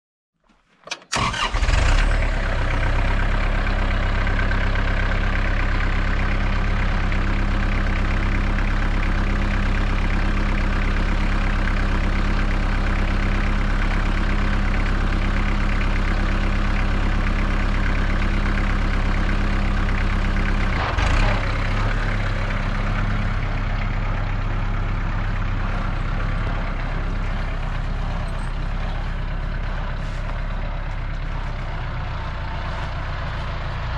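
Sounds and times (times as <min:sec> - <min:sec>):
tractor engine running: 0:00.8 - 0:33.9.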